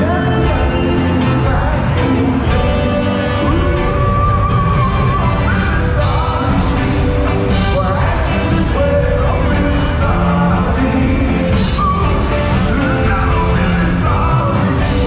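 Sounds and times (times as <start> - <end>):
band with keyboards drums saxophones: 0.0 - 15.0
vocal group singing: 0.0 - 15.0.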